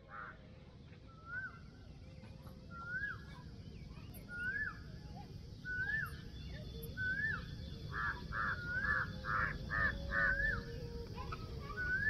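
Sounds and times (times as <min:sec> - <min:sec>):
slurred whistled bird notes: 0:01.1 - 0:01.9, 0:02.7 - 0:12.0.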